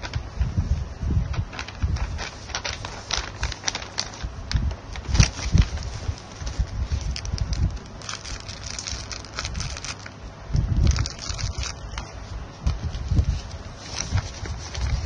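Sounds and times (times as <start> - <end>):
plastic and paper crinkling: 0.0 - 0.5, 1.2 - 15.0.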